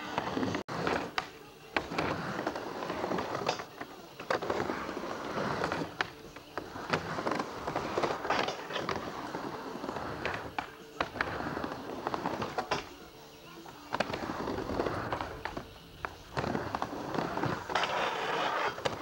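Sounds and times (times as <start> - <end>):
skateboard clacking on ramp: 0.0 - 19.0
skateboard wheels rolling on wood: 0.0 - 19.0.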